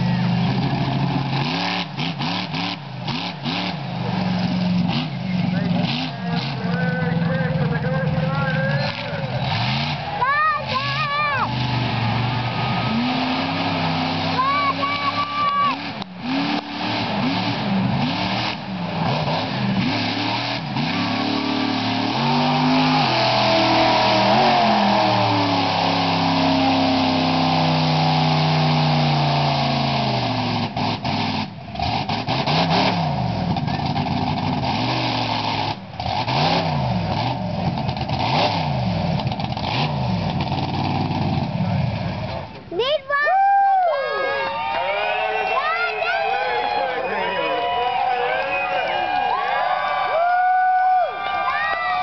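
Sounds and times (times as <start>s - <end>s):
monster truck engine revving: 0.0s - 42.8s.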